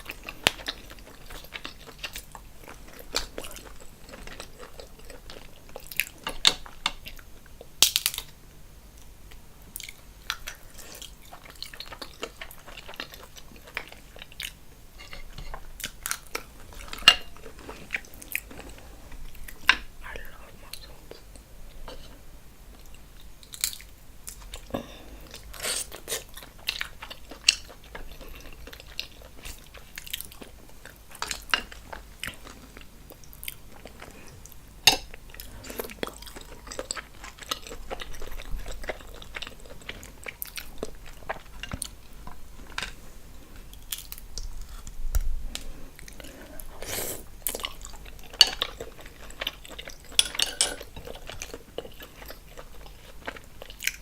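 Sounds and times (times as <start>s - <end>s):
wet chewing and crunching: 0.0s - 54.0s.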